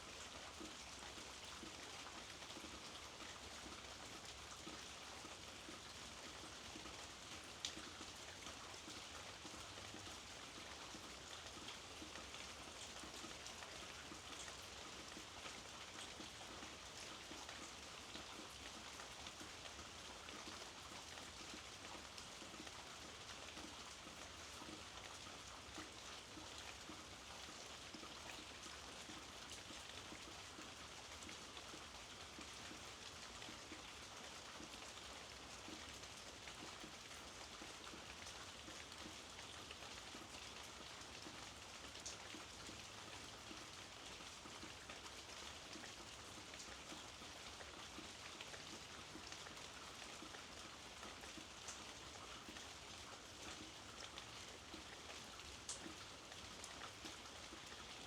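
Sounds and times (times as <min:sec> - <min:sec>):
soft rainfall: 0:00.0 - 0:58.0.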